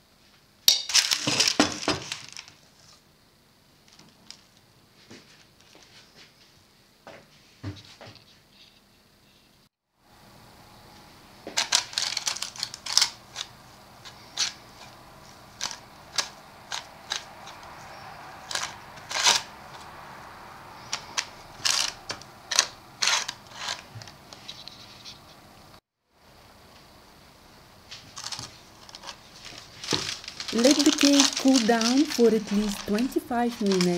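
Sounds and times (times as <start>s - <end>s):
faint steady hiss: 0.0s - 33.9s.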